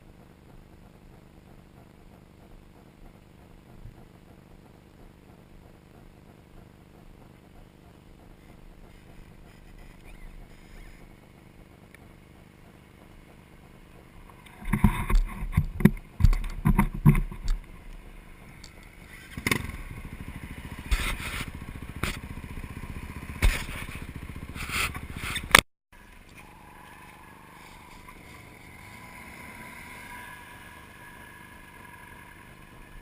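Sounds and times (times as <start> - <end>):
engine running with even pulse: 0.0 - 33.0
steady hum: 0.0 - 33.0.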